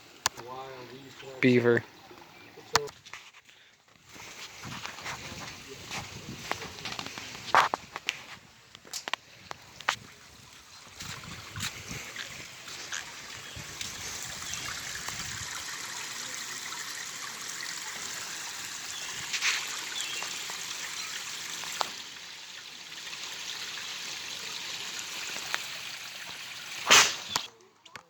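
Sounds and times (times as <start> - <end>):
water running and trickling: 4.1 - 27.5.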